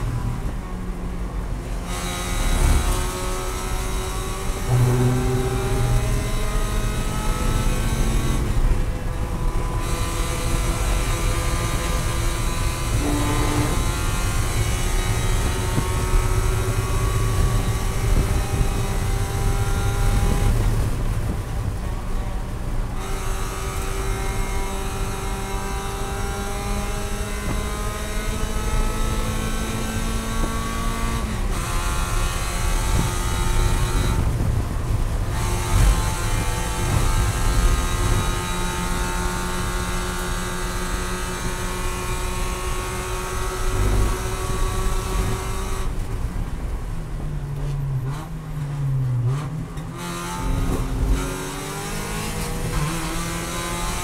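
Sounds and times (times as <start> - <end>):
road and wind noise: 0.0 - 54.0
race car engine accelerating: 1.7 - 21.8, 22.4 - 46.8, 47.6 - 54.0.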